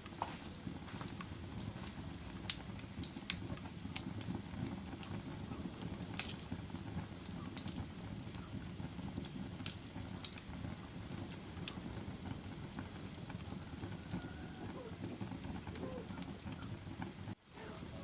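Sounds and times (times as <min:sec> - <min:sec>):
fire popping and snapping: 0:00.0 - 0:18.0
low rumble of flames: 0:00.0 - 0:18.0.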